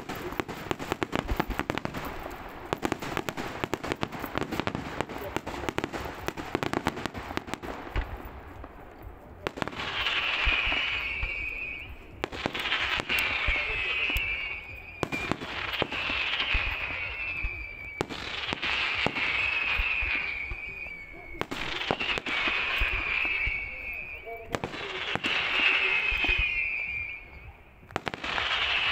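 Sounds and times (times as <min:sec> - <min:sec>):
falling whistle of fireworks: 0:00.0 - 0:28.9.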